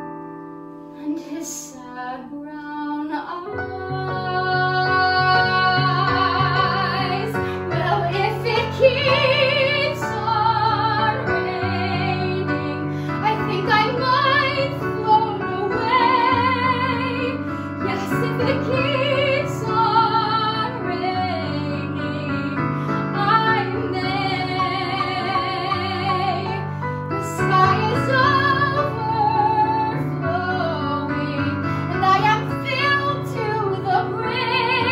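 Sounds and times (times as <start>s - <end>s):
woman singing with vibrato: 1.0s - 26.6s, 27.2s - 34.9s.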